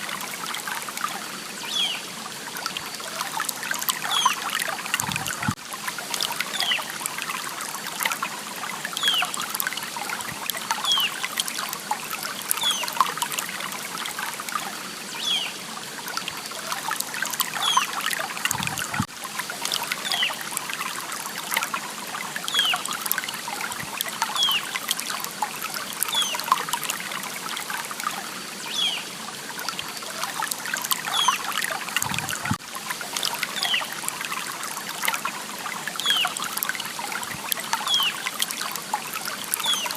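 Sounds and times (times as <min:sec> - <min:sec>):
water babbling in a stream: 0:00.0 - 0:39.9.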